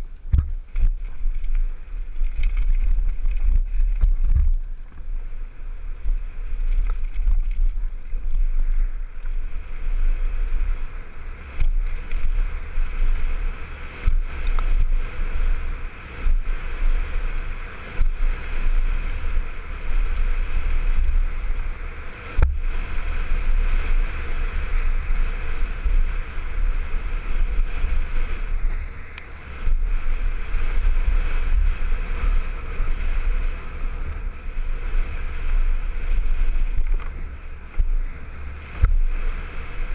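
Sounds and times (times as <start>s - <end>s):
bike tyre rumble and rattle: 0.0s - 39.9s
wind buffeting camera: 0.0s - 39.9s.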